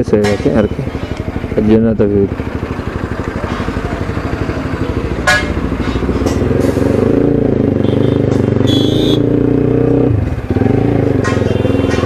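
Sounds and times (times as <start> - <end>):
motorcycle engine accelerating: 1.2 - 12.0.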